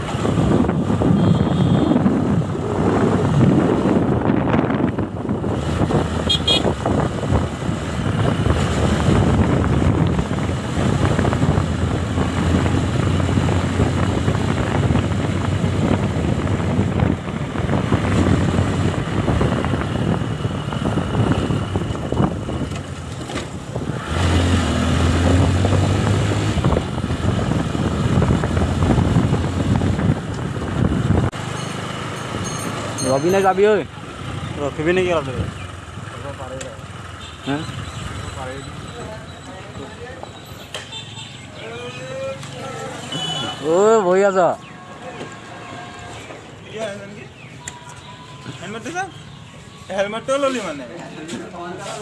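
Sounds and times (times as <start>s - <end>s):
motorcycle engine: 0.0s - 44.0s
wind and road noise: 0.0s - 52.0s.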